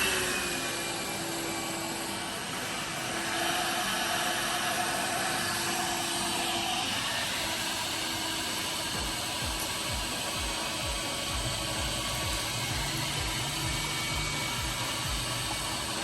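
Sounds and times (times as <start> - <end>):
stick vacuum whining: 0.0 - 16.0.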